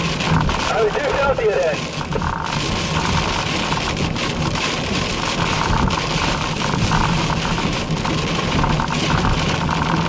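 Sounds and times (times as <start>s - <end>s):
rain on car: 0.0s - 10.0s
road and engine noise: 0.0s - 10.0s.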